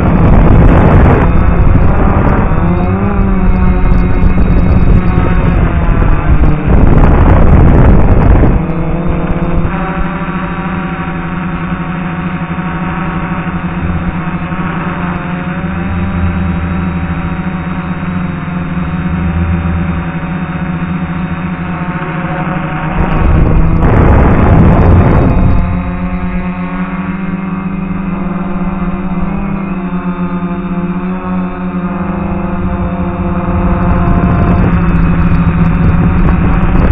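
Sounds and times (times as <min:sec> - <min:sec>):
drone propellers humming: 0:00.0 - 0:36.9.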